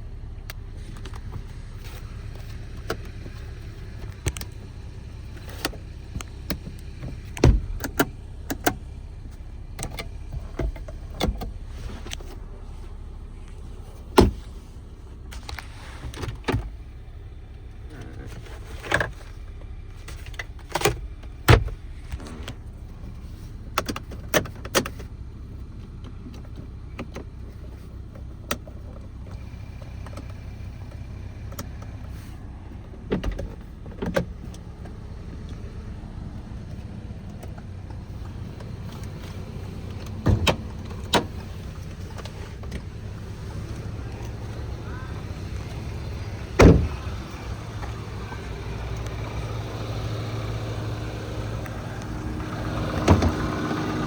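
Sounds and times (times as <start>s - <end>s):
car doors and controls clicking: 0.4s - 17.1s, 17.8s - 25.2s, 25.8s - 54.0s.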